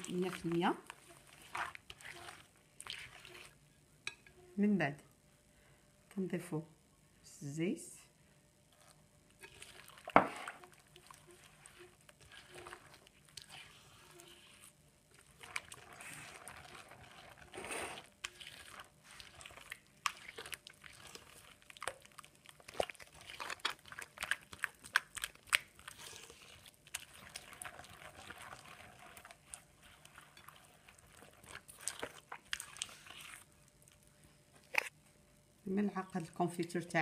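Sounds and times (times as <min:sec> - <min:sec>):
hand mixing wet batter: 0:00.0 - 0:04.2, 0:08.7 - 0:35.0.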